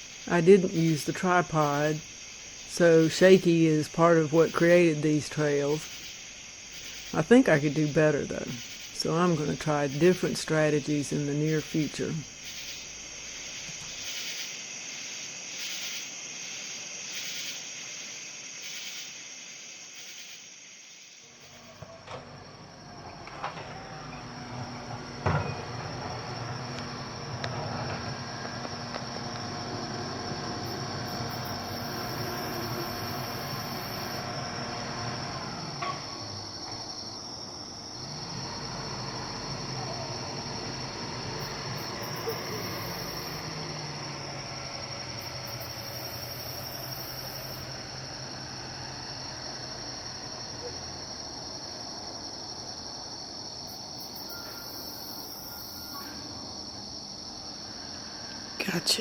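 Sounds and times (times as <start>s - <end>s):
crickets trilling: 0.0s - 59.0s
night insects droning: 0.0s - 59.0s.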